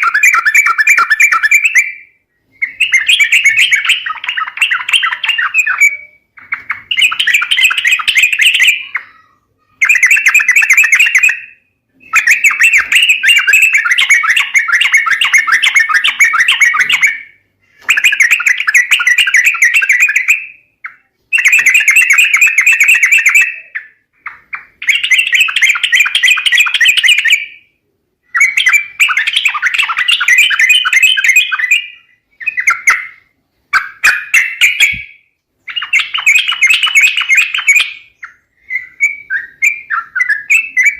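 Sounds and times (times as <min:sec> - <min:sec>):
bird chattering calls: 0:02.6 - 0:27.4, 0:28.3 - 0:40.9.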